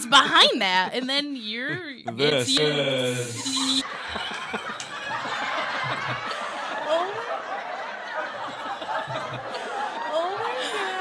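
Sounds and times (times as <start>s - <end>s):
people laughing: 2.0s - 11.0s.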